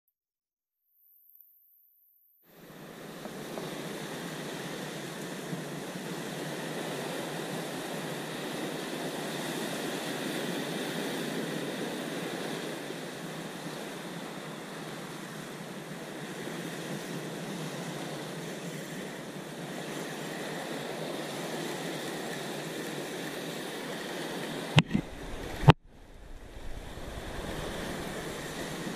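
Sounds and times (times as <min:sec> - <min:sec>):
sea surf breaking over rocks: 0:02.6 - 0:28.9.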